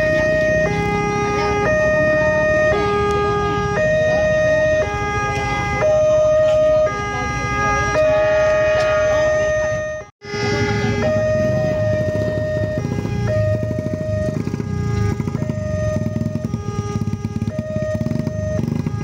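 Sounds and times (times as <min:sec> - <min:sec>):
level crossing two-tone alarm: 0:00.0 - 0:19.0.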